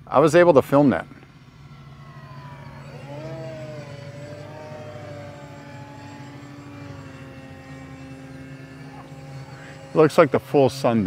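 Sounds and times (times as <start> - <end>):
model plane electric motor whine: 0.0 - 11.0
steady low hum: 0.0 - 11.0.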